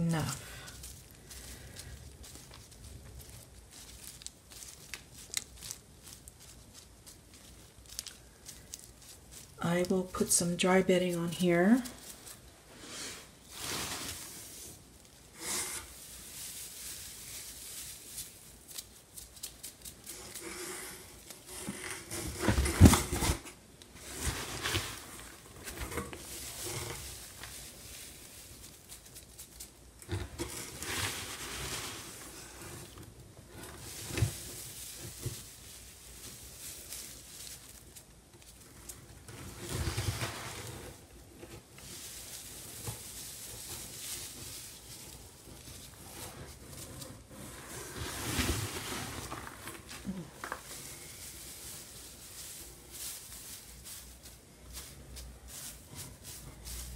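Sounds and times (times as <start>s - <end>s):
shredded paper rustling: 0.0s - 56.9s.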